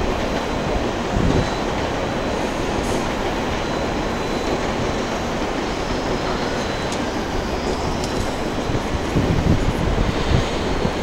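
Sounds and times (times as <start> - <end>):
trains running on tracks: 0.0 - 11.0.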